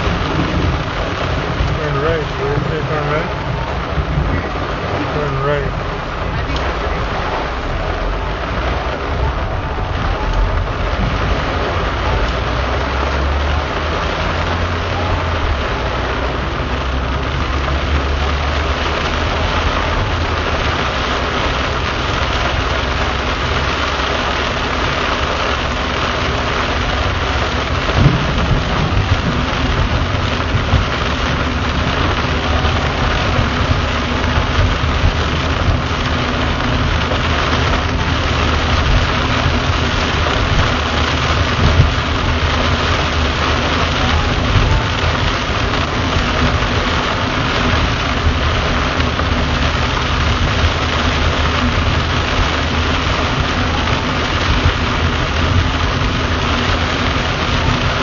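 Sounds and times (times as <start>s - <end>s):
car rumbling on road: 0.0s - 58.0s
heavy rain on car roof: 0.0s - 58.0s.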